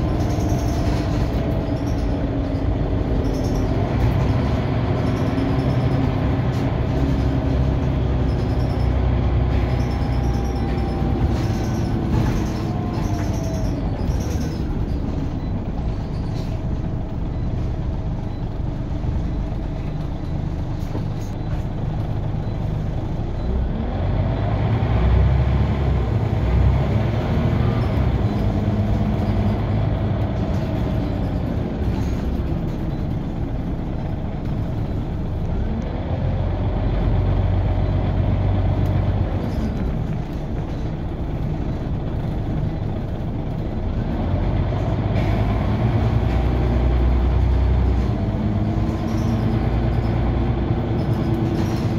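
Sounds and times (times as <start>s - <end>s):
bus engine rumbling: 0.0s - 51.9s.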